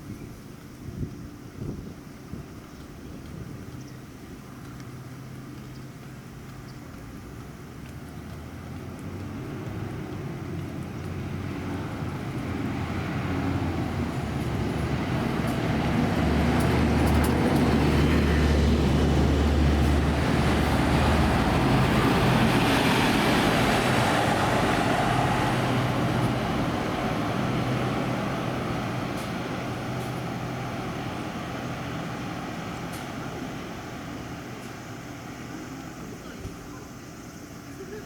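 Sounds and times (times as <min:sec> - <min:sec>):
road noise: 0:00.0 - 0:38.0
bus diesel engine drone: 0:00.6 - 0:38.0.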